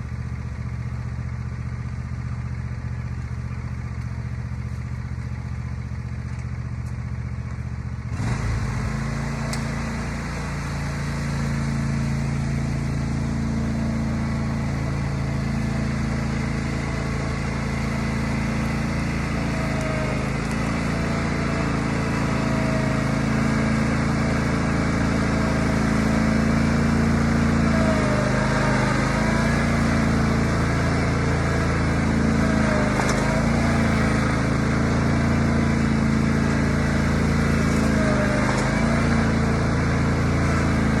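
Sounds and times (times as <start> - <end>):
riding mower engine running: 0.0 - 41.0.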